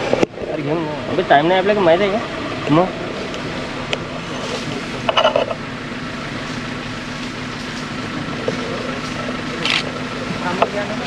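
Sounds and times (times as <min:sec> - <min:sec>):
jeep engine running: 0:00.0 - 0:11.0.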